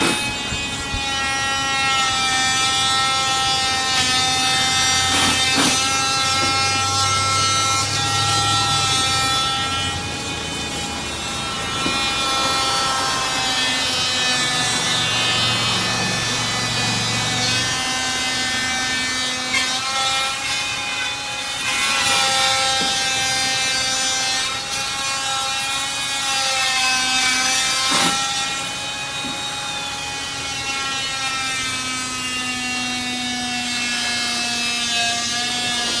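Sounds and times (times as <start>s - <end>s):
noisy background: 0.0s - 32.8s
power tool whine: 0.0s - 36.0s.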